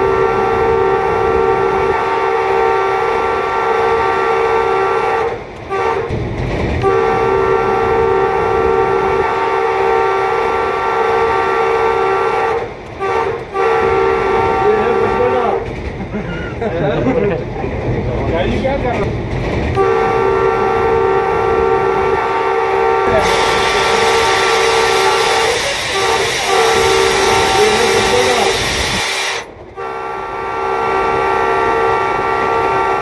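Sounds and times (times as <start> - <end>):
locomotive air horn blasts: 0.0 - 6.2, 6.8 - 15.6, 19.8 - 33.0.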